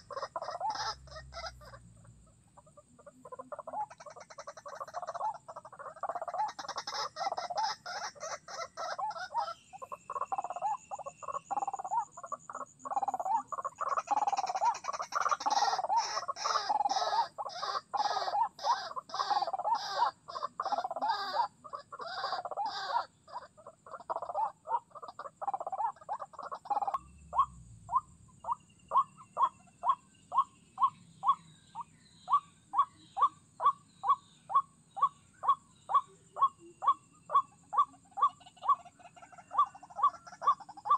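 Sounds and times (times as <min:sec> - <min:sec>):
birds harsh croaking: 0:00.0 - 0:40.9.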